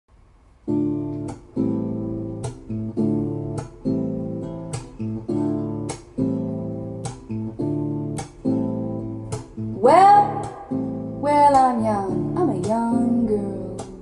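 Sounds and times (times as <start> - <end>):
acoustic guitar strumming chords: 0.6 - 14.0.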